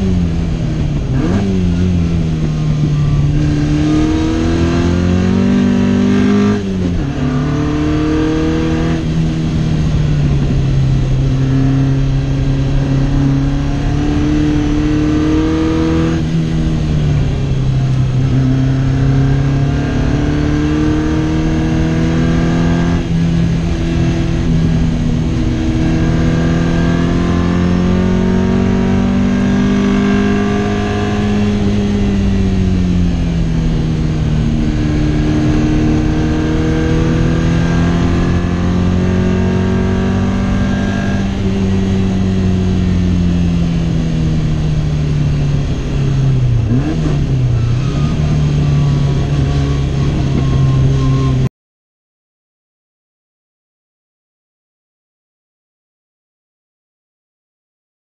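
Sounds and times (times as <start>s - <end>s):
racing car engine accelerating: 0.0s - 51.5s.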